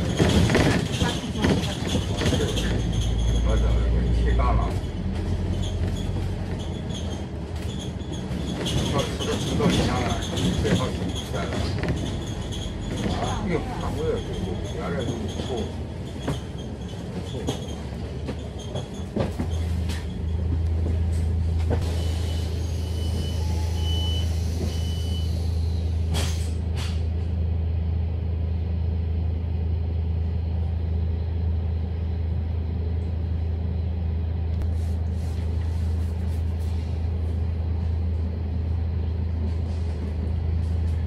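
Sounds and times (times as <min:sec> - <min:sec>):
bus engine droning: 0:00.0 - 0:41.0.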